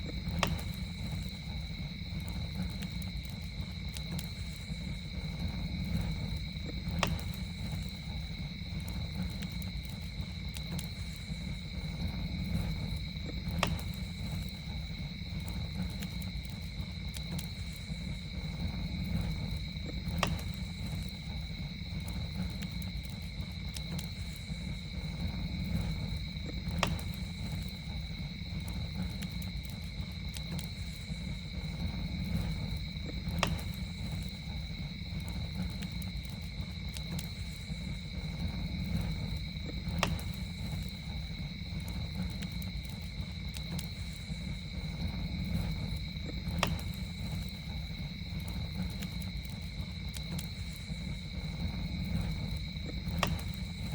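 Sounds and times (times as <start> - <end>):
campfire burning: 0.0 - 53.9
campfire popping: 0.0 - 53.9
night insects droning: 0.0 - 53.9.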